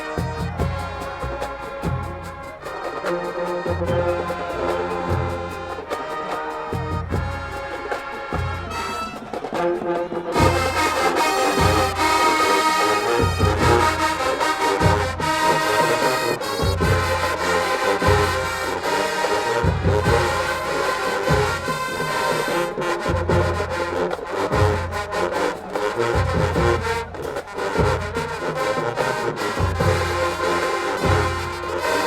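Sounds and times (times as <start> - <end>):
marching band playing: 0.0 - 32.0.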